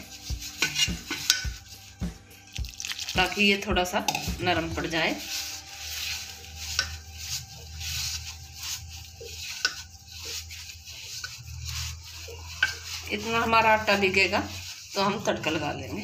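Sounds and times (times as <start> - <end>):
fingers squishing wet flour on metal: 0.0 - 16.0.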